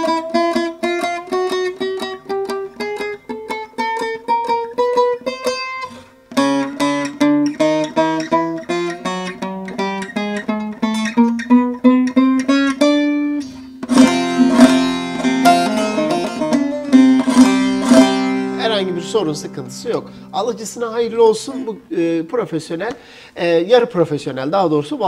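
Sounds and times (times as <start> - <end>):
strummed lute chords: 0.0 - 22.1
plucked lute notes: 0.0 - 22.4.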